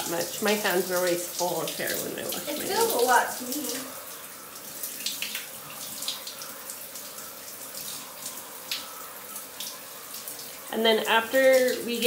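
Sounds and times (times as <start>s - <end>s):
shower spray running: 0.0s - 12.0s
water splashing off hair: 0.0s - 12.0s.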